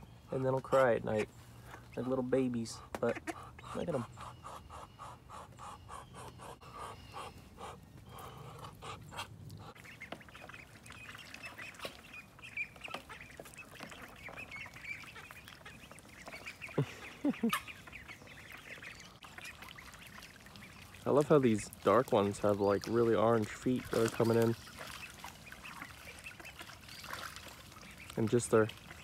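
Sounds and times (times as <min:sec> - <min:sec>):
ducklings peeping and chattering: 0:00.0 - 0:29.0.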